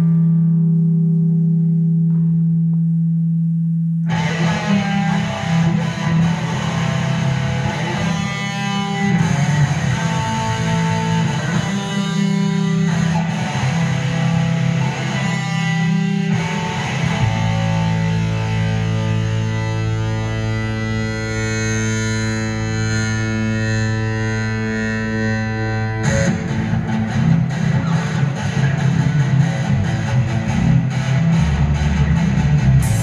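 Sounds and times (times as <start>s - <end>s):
held distorted guitar note: 0.0s - 33.0s
live rock band playing: 4.1s - 33.0s.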